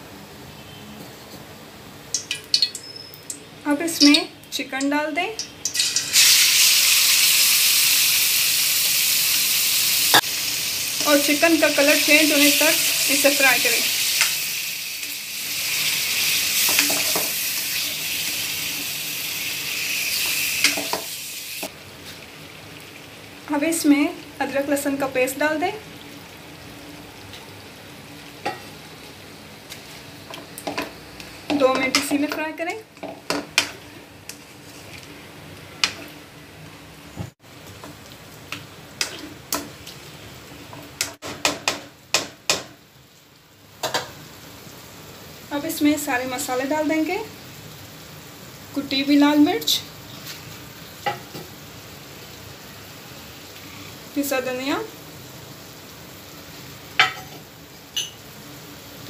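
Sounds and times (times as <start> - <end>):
chicken sizzling in hot oil: 4.9 - 36.7, 37.4 - 59.0.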